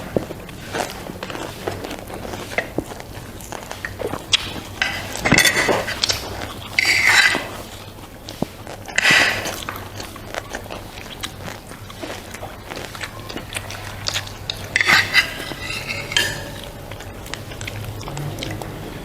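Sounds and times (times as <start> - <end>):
utensil clicking against dish: 0.0 - 18.9
person eating: 0.0 - 19.0.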